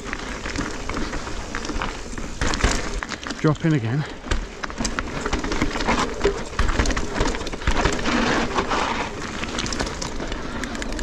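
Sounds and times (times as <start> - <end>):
bike knocks and rattles: 0.0 - 11.0
bike tyre noise: 0.0 - 11.0.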